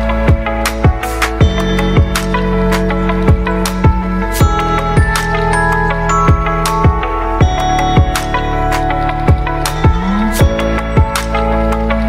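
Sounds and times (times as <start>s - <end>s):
steady thumping beat: 0.2s - 12.0s
sustained chords: 1.4s - 12.0s.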